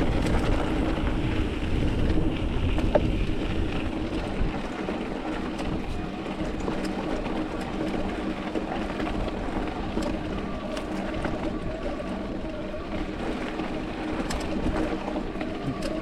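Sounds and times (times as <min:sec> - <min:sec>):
bike clicks and rattles: 0:00.0 - 0:16.0
bike tyre and wind rumble: 0:00.0 - 0:16.0.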